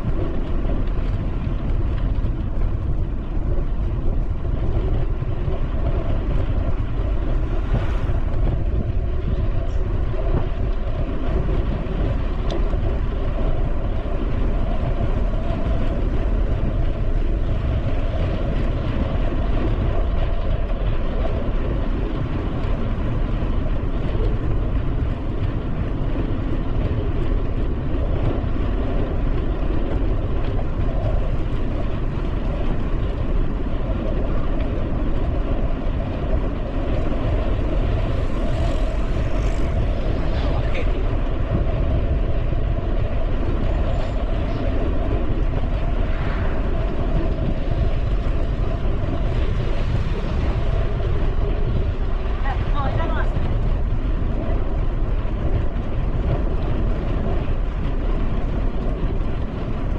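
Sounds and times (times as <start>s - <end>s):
bicycle rolling rumble: 0.0s - 59.9s
wind on microphone: 0.0s - 59.9s.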